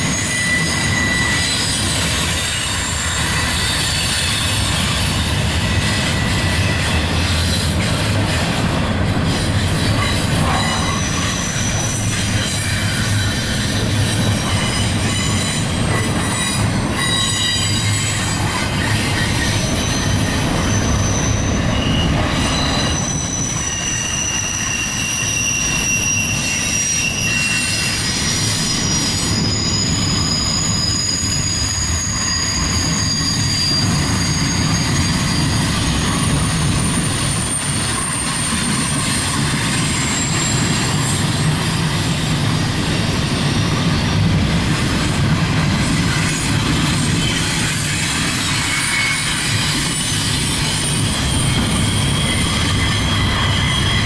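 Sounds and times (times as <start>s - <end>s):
wheel squeals: 0.0s - 8.6s, 9.2s - 44.3s, 45.9s - 54.0s
train wheels rumbling on rail: 0.0s - 54.0s.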